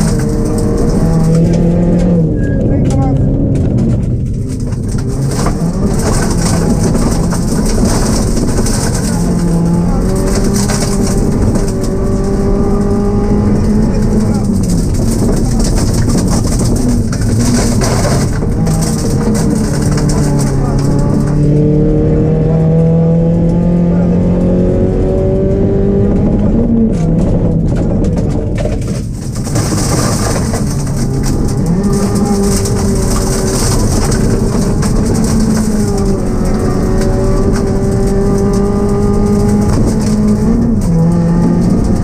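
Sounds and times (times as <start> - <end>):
rally car engine from inside: 0.0 - 42.0
car knocking on stones: 2.9 - 21.6, 26.9 - 42.0.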